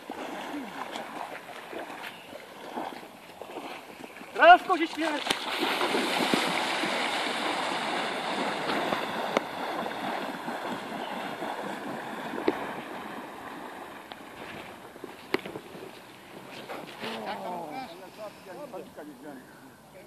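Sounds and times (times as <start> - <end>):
person wading through water: 0.0 - 19.9.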